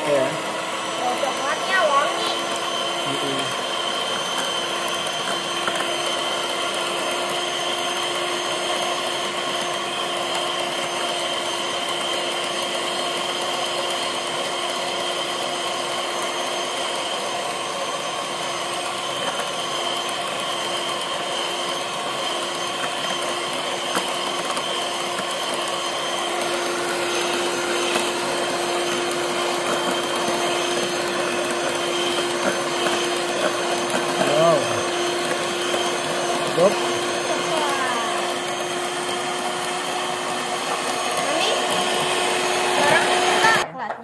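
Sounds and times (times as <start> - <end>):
beaters whisking in metal bowl: 0.0 - 44.0
electric hand mixer running: 0.0 - 44.0.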